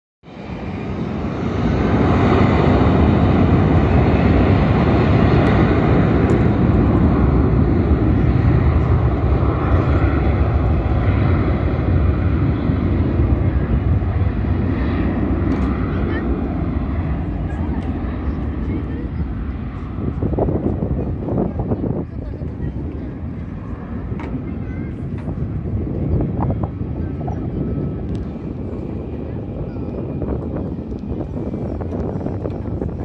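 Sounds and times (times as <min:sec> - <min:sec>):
jet engines roaring at takeoff: 0:00.2 - 0:33.0.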